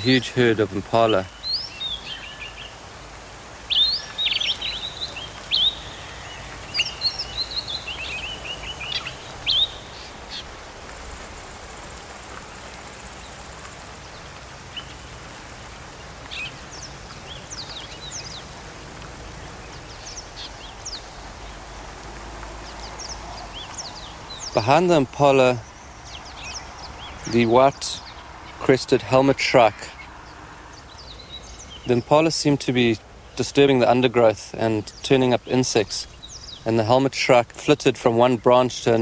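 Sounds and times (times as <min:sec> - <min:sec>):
birds chirping and calling: 0:00.0 - 0:15.2, 0:16.1 - 0:18.7, 0:19.4 - 0:21.7, 0:22.6 - 0:39.0.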